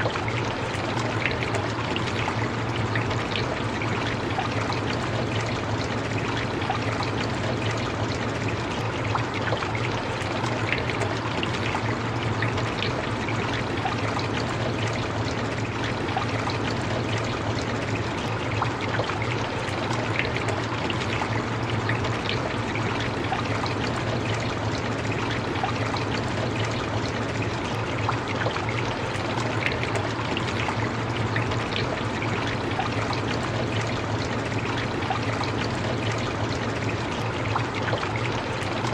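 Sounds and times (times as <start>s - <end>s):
low steady rumble: 0.0s - 38.9s
water running: 0.0s - 38.9s.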